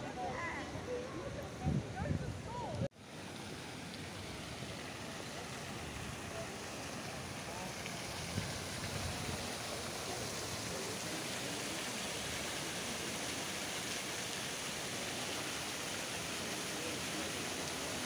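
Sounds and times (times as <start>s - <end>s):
splashing water rushing: 2.5s - 18.0s.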